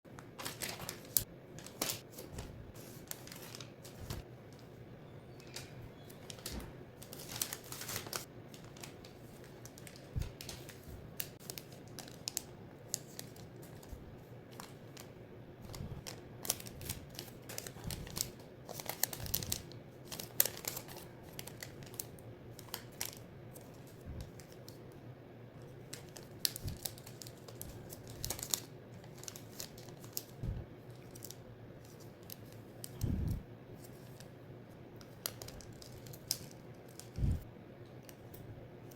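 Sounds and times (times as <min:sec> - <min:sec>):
paper being folded and creased: 0:00.2 - 0:04.7, 0:05.4 - 0:24.8, 0:25.8 - 0:34.3, 0:35.0 - 0:37.4.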